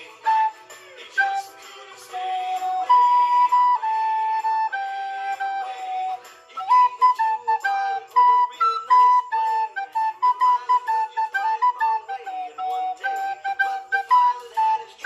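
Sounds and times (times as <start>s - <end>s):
recorder playing jazzy melody: 0.0s - 15.0s.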